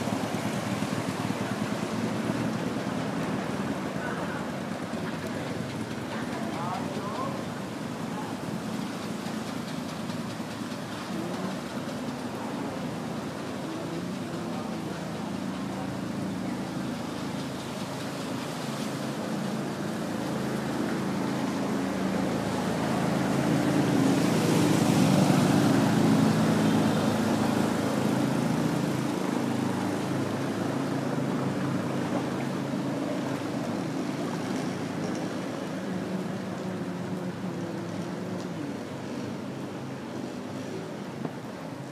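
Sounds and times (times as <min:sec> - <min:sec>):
water splashing: 0:00.0 - 0:41.9.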